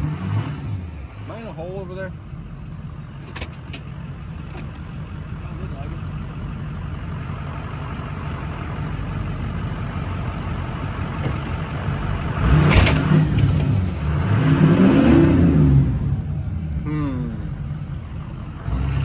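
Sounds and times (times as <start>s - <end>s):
diesel engine running and revving: 0.0s - 19.0s.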